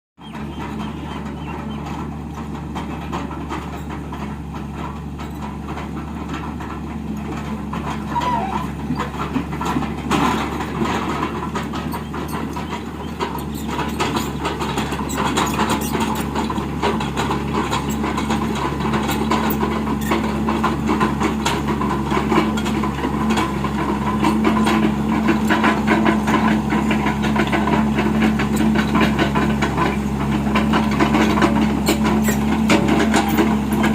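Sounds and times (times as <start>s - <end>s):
clanks and knocks: 0.2s - 33.9s
excavator diesel engine running: 0.2s - 33.9s.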